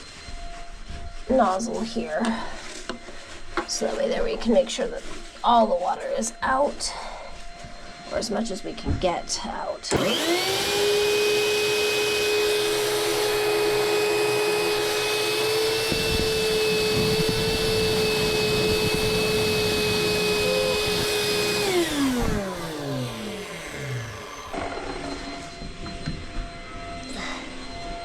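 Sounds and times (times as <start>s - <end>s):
wet dry vacuum motor whine: 5.0s - 28.0s.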